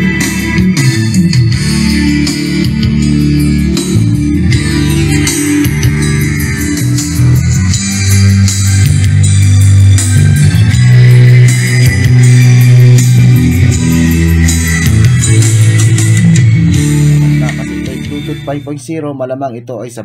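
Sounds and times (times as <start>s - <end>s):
karaoke backing track: 0.0s - 20.0s.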